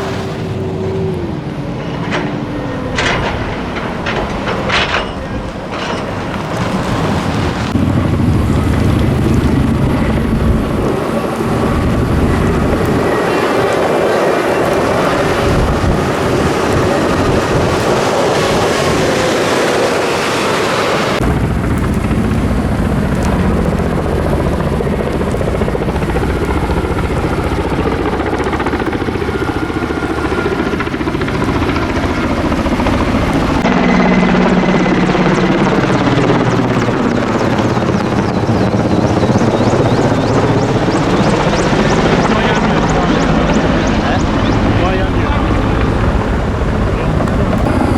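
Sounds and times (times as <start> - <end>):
helicopter flying overhead: 0.0 - 47.9.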